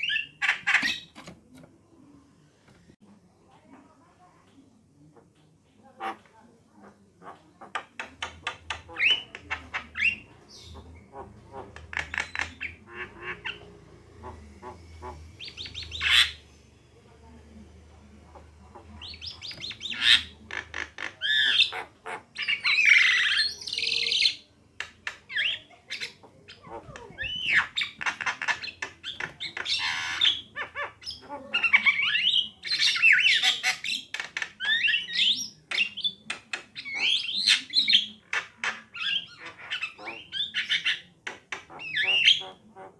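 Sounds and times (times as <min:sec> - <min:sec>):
myna chattering and squawking: 0:00.0 - 0:01.7, 0:06.0 - 0:16.5, 0:18.2 - 0:42.9.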